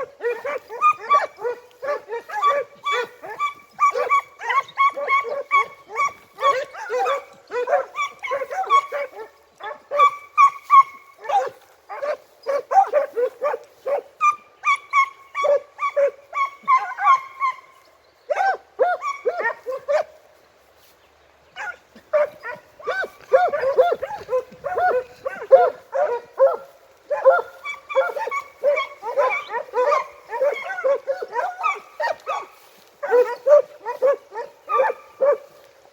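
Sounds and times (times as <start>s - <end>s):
hounds yelping and baying: 0.0s - 20.2s, 21.6s - 35.9s.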